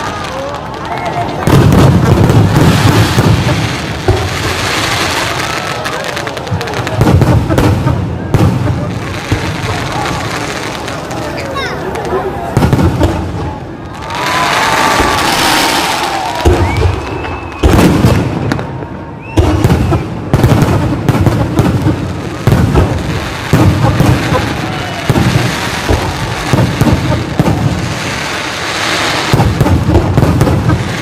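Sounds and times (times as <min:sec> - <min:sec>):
fireworks fizzing and crackling: 0:00.0 - 0:31.0.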